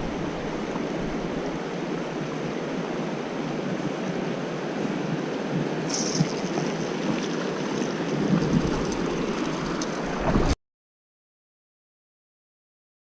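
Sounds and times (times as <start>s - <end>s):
water rushing over rocks: 0.0s - 10.6s.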